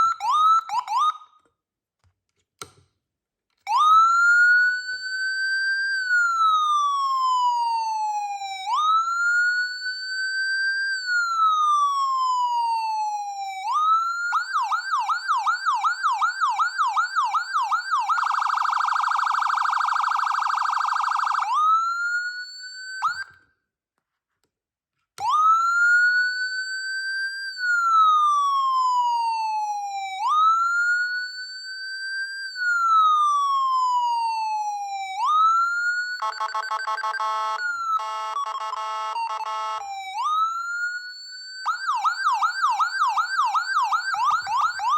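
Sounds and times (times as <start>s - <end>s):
electronic siren: 0.0s - 1.4s, 3.7s - 23.4s, 25.2s - 44.9s.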